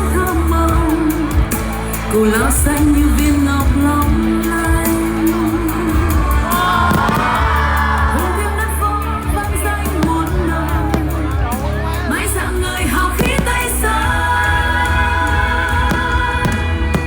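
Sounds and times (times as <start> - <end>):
pop song with singing: 0.0 - 17.0
steady bass line: 0.0 - 17.0.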